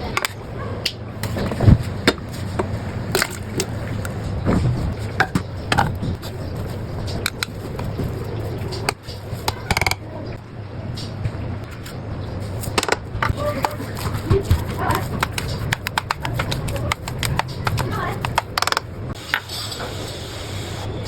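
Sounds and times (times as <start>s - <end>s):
kitchen utensils and dishes clicking: 0.0s - 0.4s, 1.2s - 10.1s, 11.0s - 19.4s.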